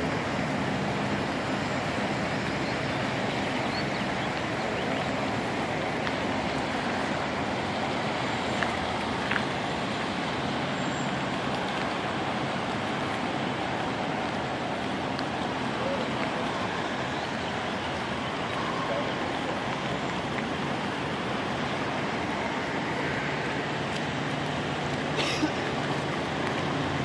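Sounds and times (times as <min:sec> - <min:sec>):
floodwater rushing: 0:00.0 - 0:27.0.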